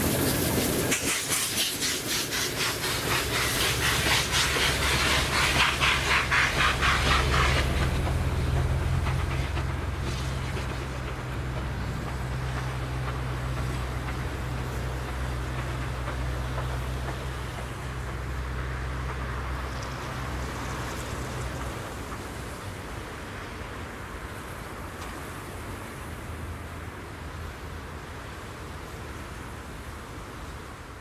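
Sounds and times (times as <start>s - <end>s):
steam locomotive beats: 0.0s - 25.4s
train rumble: 0.0s - 31.0s.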